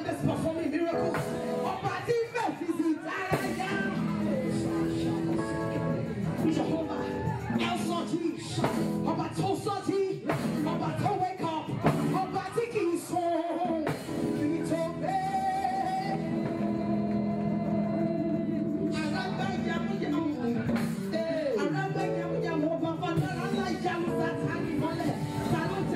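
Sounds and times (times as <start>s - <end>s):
band accompaniment: 0.0s - 25.9s
woman singing gospel: 0.0s - 25.9s.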